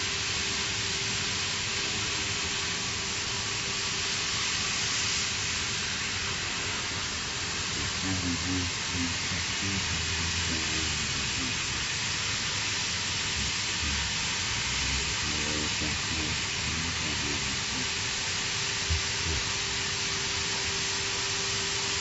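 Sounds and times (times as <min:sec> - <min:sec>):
plasma torch hissing: 0:00.0 - 0:22.0.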